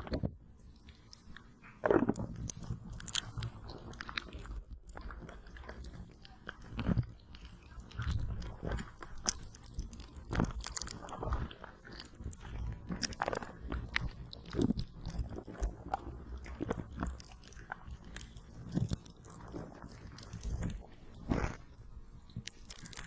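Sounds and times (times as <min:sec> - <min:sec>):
gel patch crackling and crinkling: 0:00.0 - 0:23.0.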